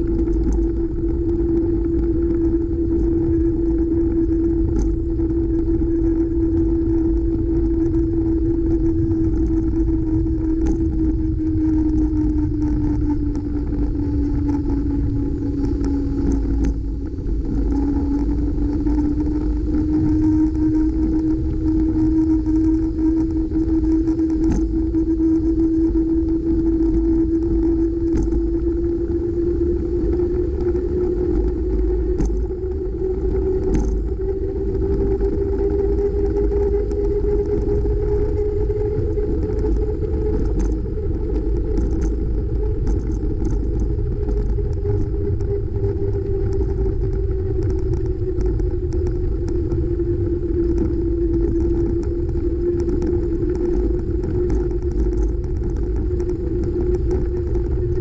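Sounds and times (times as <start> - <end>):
road rumble: 0.0 - 58.0
steady hum: 0.0 - 58.0
wind noise: 0.0 - 58.0.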